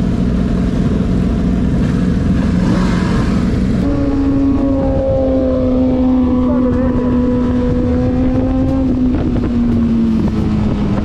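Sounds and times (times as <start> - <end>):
motorcycle engine: 0.0 - 11.0
wind noise: 1.7 - 11.0.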